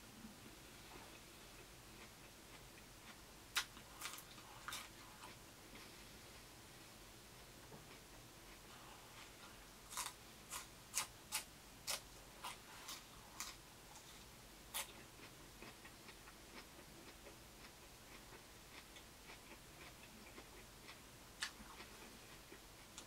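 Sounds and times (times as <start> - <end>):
crunchy vegetable being chewed: 1.0 - 5.9, 7.8 - 23.0.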